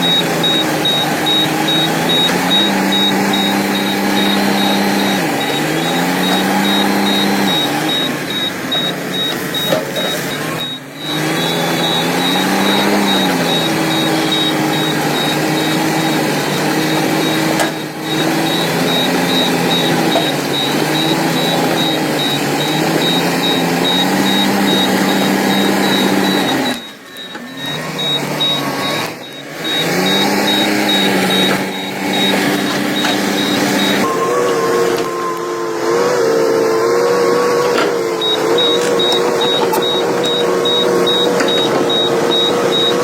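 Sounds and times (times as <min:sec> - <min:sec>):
rapid high-pitched beeping: 0:00.0 - 0:35.4, 0:38.0 - 0:43.0
heavy diesel engine under load: 0:00.0 - 0:43.0.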